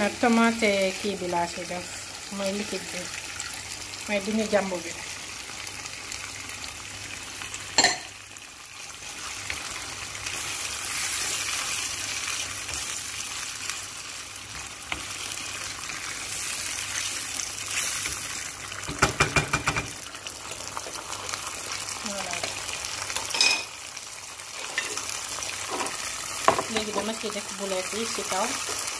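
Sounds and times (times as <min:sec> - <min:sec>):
tomato sauce sizzling in a pan: 0:00.0 - 0:28.9.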